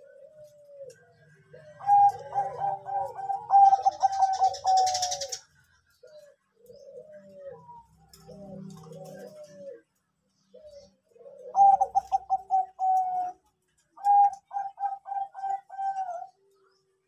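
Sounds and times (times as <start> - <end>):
dove cooing: 0.0 - 16.8.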